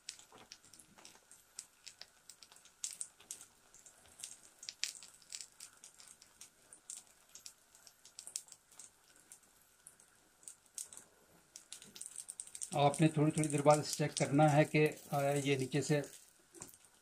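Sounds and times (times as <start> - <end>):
roti crackling in a pan: 0.0 - 17.0.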